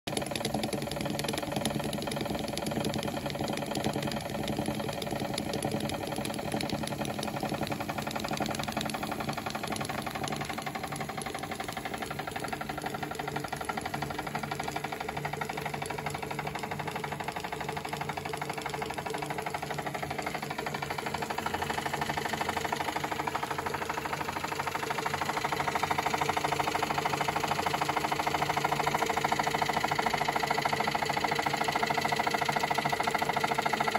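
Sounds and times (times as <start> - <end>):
toy steam engine clattering: 0.1 - 33.9.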